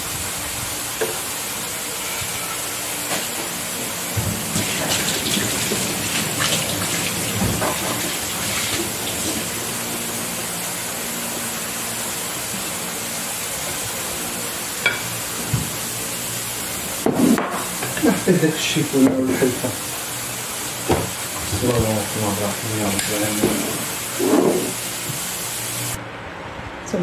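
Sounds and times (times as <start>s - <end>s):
steady hissing rush: 0.0s - 26.0s.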